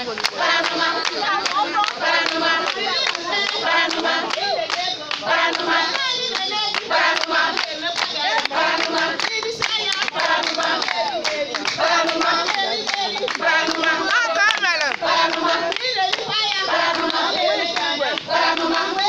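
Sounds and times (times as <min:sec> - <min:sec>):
rhythmic hand clapping: 0:00.0 - 0:19.0
women singing together: 0:00.0 - 0:19.0.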